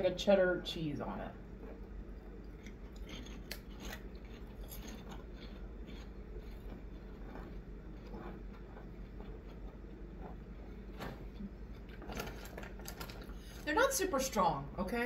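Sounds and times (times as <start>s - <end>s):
people chewing crunchy food: 1.3s - 13.7s.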